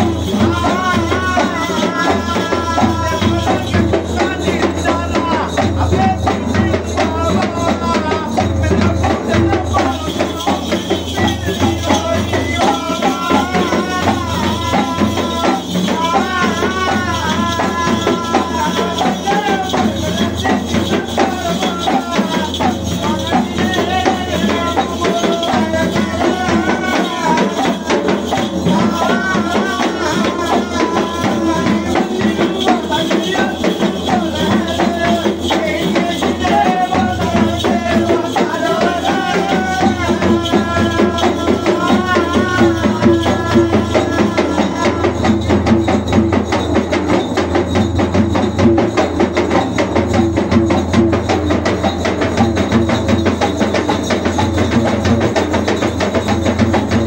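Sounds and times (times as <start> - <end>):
person singing a chant: 0.0 - 46.1
barrel drum fast rhythm: 0.0 - 57.0
jingling percussion: 0.0 - 57.0.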